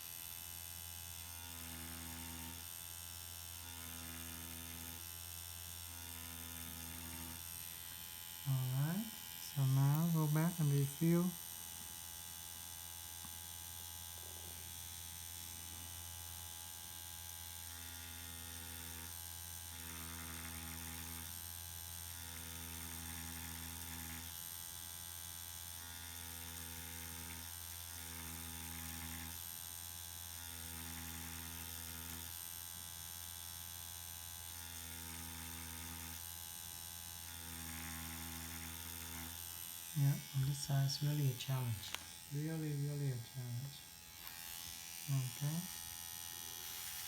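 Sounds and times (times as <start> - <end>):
steady electrical hum: 0.0 - 29.4, 34.2 - 47.0
makeup machine pen buzzing: 0.0 - 47.0.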